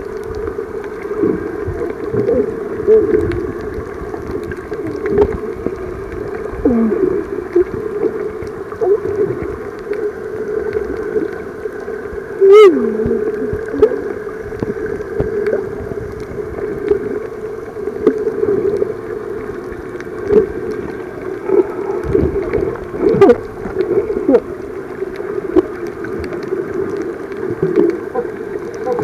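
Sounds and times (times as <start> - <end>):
underwater gurgling water: 0.0 - 29.0.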